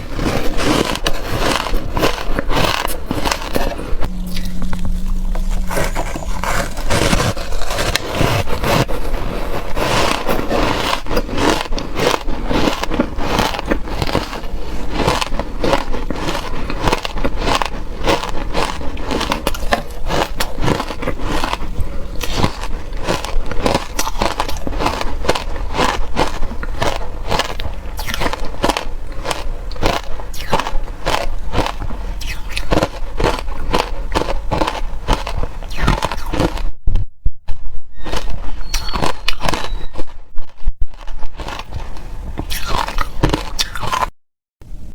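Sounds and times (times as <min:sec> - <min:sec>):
chewing crunchy ice: 0:00.0 - 0:36.8, 0:37.5 - 0:44.1.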